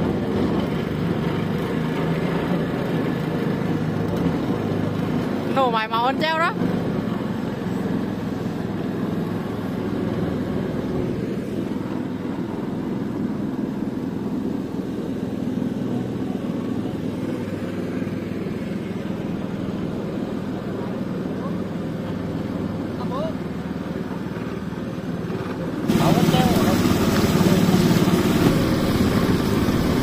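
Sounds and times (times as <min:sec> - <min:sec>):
small boat engine running: 0:00.0 - 0:30.0.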